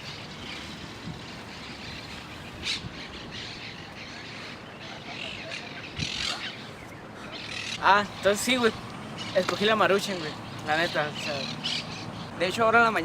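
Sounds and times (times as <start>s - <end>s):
parakeets chirping and squawking: 0.0s - 13.0s.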